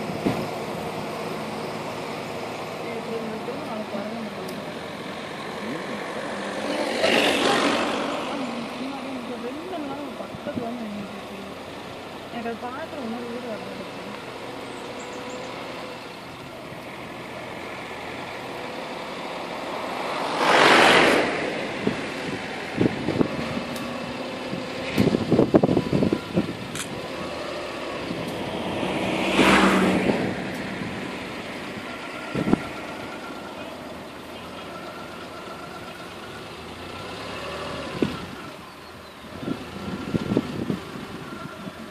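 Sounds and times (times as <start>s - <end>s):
engine humming: 0.0s - 41.9s
vehicles passing by: 0.0s - 41.9s.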